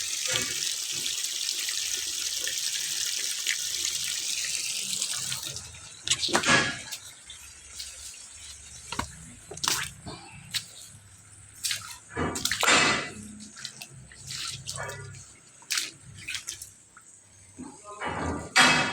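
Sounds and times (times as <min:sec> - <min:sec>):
water gushing and splashing: 0:00.0 - 0:17.1.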